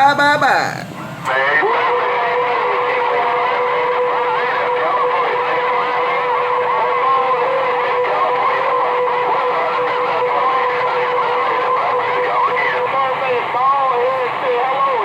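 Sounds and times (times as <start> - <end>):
garbled radio transmissions: 0.0 - 15.0
radio hiss: 0.0 - 15.0
radio whistle tone: 1.3 - 15.0.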